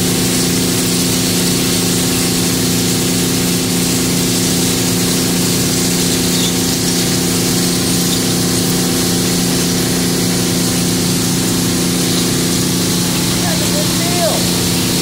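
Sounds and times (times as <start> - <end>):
engine and pump drone: 0.0 - 15.0
spraying water hiss: 0.0 - 15.0.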